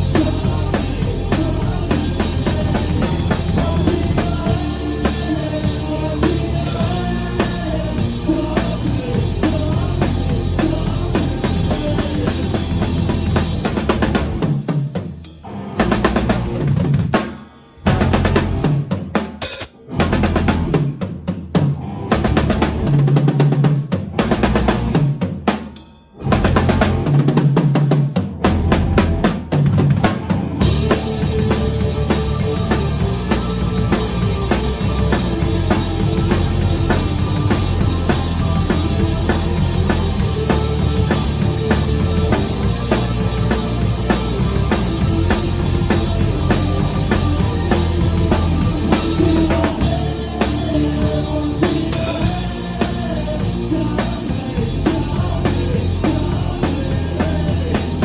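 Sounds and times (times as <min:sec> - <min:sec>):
band playing music: 0:00.0 - 0:14.6, 0:17.9 - 0:21.0, 0:21.6 - 0:25.2, 0:26.2 - 0:58.0.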